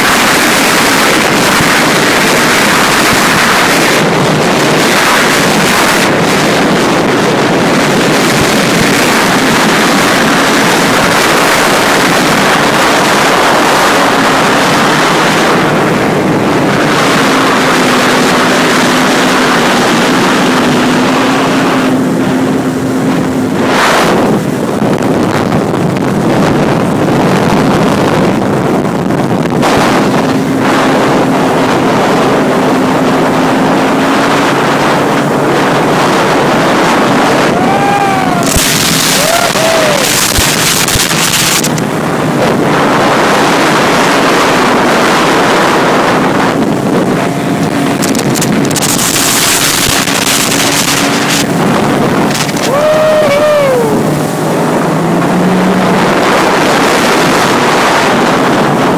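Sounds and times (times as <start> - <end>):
personal watercraft engine: 0.0 - 58.9
water rushing and spraying: 0.0 - 58.9
wind buffeting microphone: 0.0 - 58.9.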